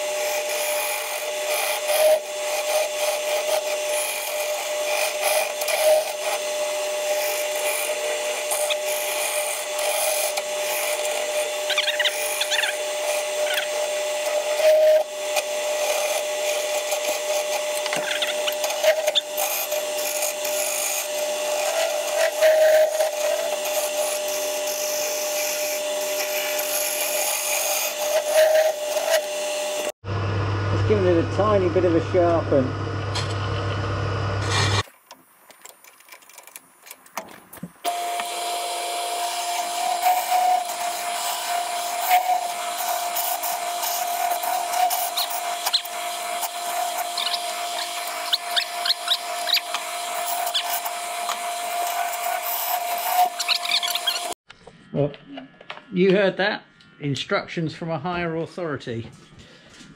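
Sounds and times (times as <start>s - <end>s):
turning tool scraping wood: 0.0s - 30.0s, 34.4s - 54.4s
woodworking lathe whining: 0.0s - 34.9s, 37.2s - 58.4s.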